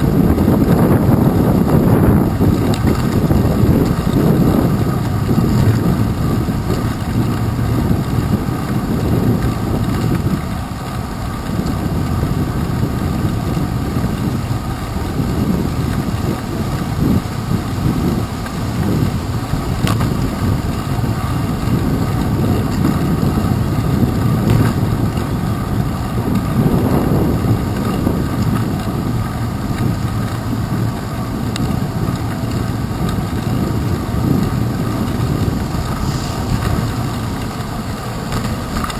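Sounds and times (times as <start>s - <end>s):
bicycle rolling on wet pavement: 0.0s - 38.9s
wind buffeting camera: 0.0s - 38.9s.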